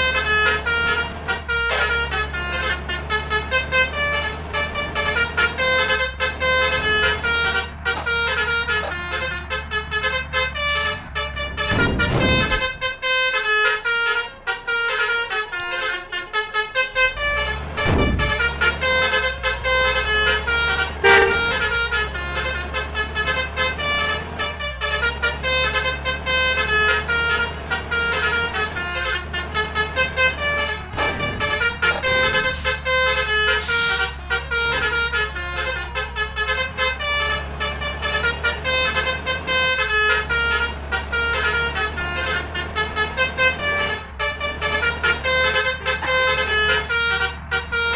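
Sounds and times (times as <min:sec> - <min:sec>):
low engine hum: 0:00.0 - 0:47.9
musical bus horns playing tune: 0:00.0 - 0:47.9.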